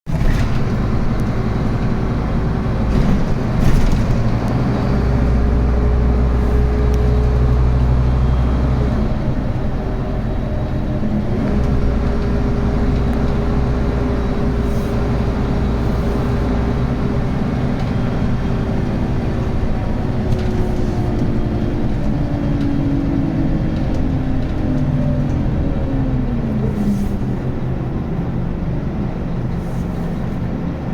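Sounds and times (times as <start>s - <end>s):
bus diesel engine running: 0.1s - 30.9s.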